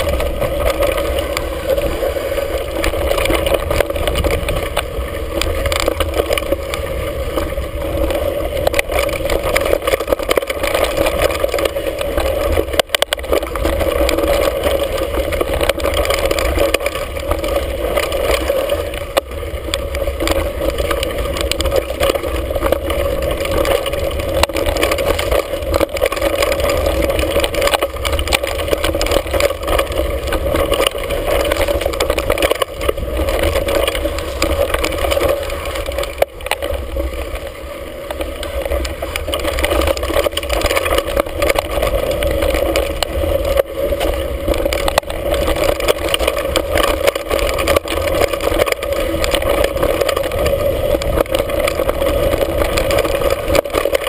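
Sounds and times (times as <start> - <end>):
bike rattles and knocks: 0.0 - 54.0
tyre rumble over dirt and rock: 0.0 - 54.0
wind buffeting microphone: 0.0 - 54.0.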